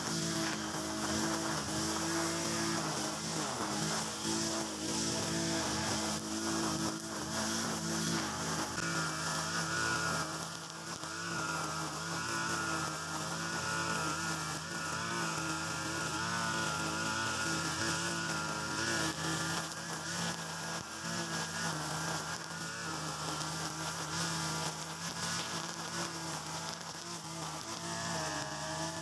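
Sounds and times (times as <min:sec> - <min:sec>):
brush cutter engine at high speed: 0:00.0 - 0:29.0.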